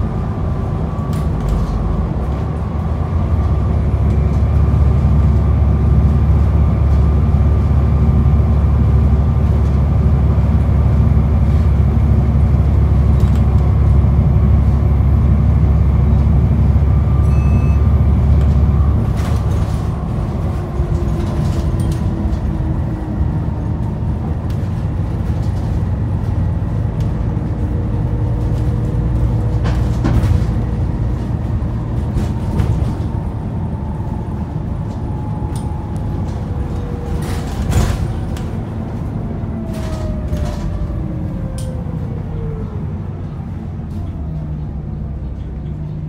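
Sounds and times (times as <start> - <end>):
bus diesel engine rumble: 0.0 - 46.0.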